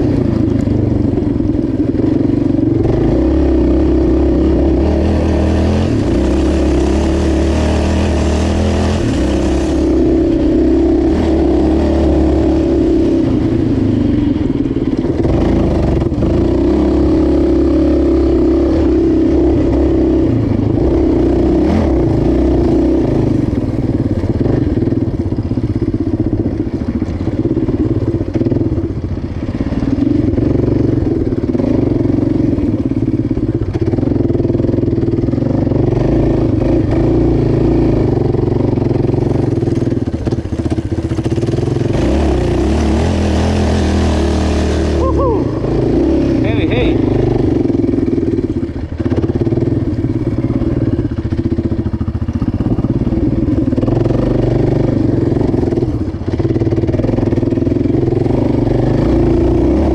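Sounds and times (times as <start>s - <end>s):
atv engine running under throttle: 0.0s - 59.9s.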